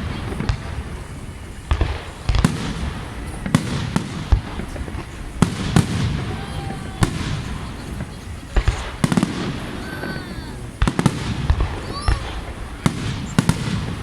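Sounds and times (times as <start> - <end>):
continuous low rumble: 0.0 - 14.0
fireworks bursting with sharp bangs: 0.0 - 14.0.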